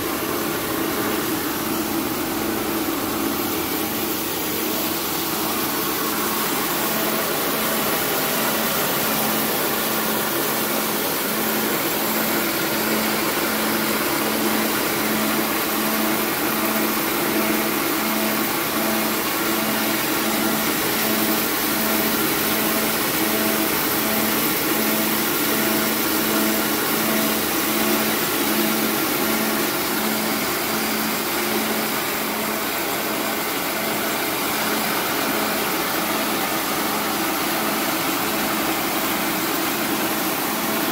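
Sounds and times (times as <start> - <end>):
rice milling machine whirring: 0.0 - 40.9.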